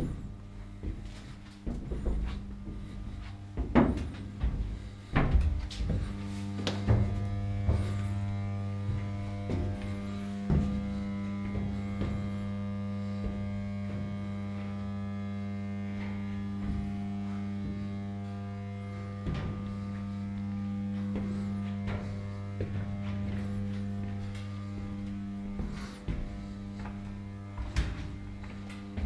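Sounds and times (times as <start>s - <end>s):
engine room machinery drone: 0.0s - 29.0s.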